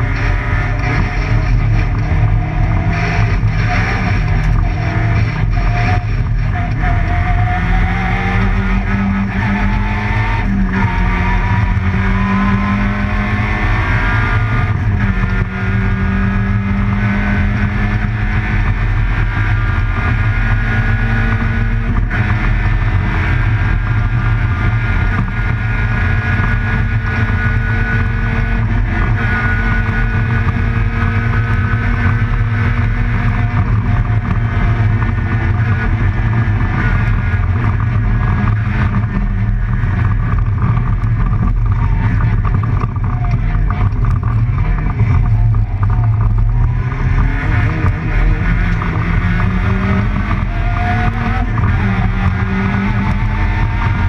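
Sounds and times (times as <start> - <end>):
low road rumble: 0.0 - 54.0
rally car engine revving: 0.0 - 54.0.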